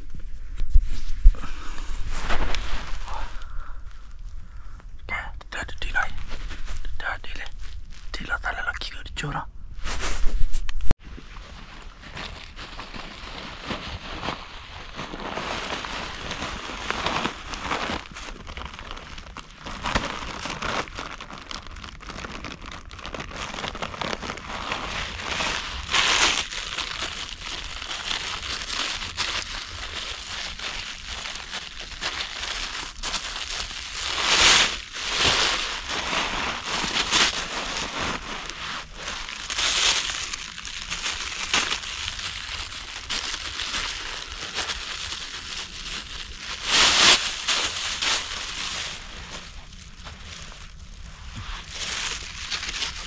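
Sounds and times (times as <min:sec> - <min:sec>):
dry crinkling and crunching rustles: 0:00.0 - 0:09.0, 0:09.8 - 0:53.0.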